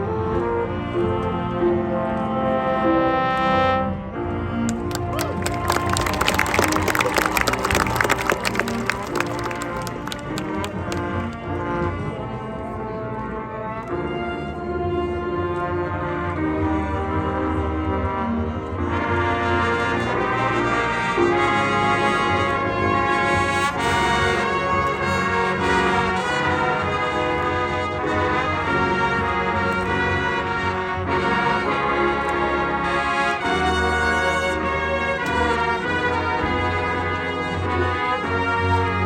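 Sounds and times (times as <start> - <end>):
marching band brass chords: 0.0 - 39.0.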